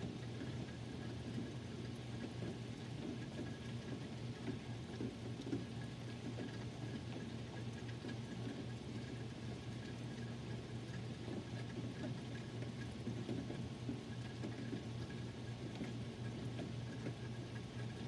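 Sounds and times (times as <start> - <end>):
drip ticks: 0.1 - 18.0.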